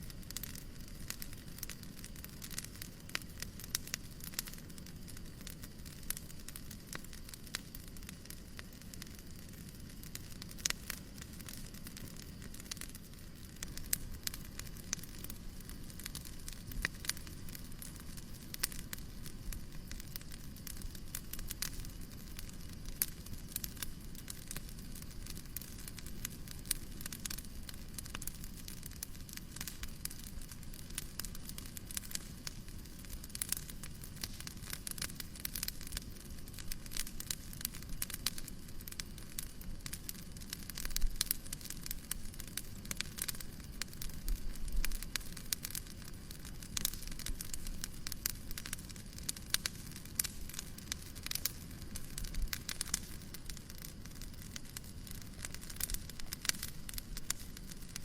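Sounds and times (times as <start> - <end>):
fireplace crackling: 0.0 - 58.0.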